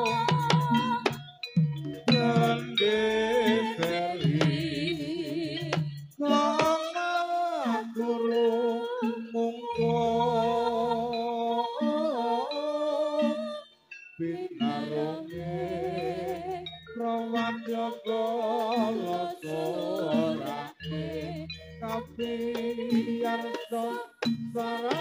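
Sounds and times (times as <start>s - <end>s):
person singing into a microphone: 0.0s - 1.2s, 2.1s - 13.6s, 14.2s - 25.0s.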